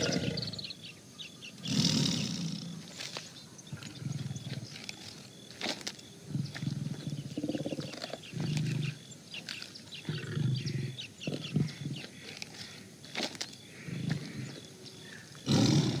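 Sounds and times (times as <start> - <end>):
tiger growling: 0.0 - 0.8, 1.6 - 16.0.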